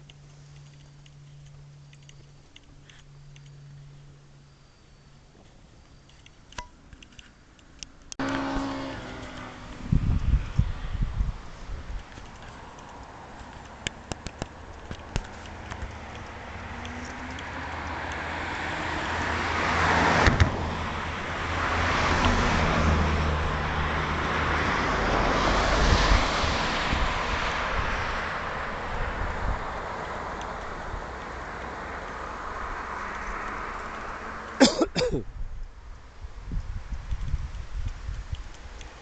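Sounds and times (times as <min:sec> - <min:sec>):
vehicles passing on road: 0:00.0 - 0:39.0.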